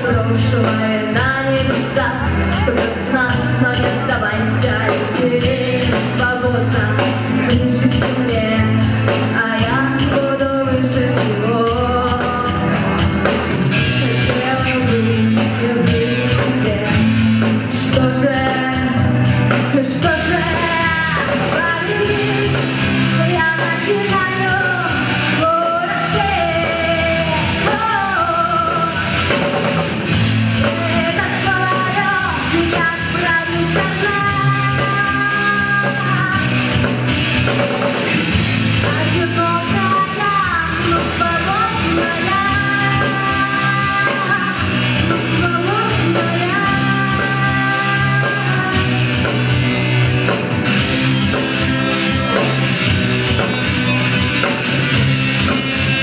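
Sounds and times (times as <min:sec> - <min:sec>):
person singing: 0:00.0 - 0:37.1, 0:37.8 - 0:52.7
live rock band playing: 0:00.0 - 0:56.0.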